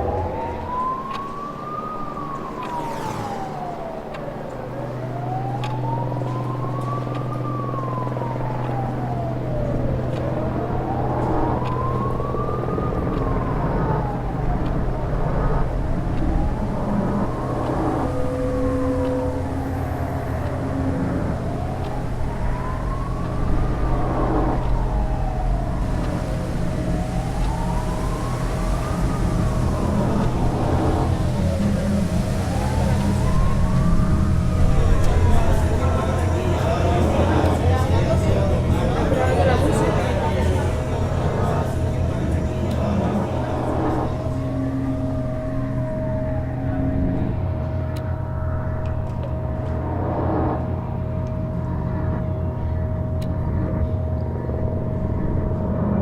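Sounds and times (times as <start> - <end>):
emergency siren wailing: 0.0 - 56.0
steady low hum: 0.0 - 56.0
steady low rumble: 0.0 - 56.0.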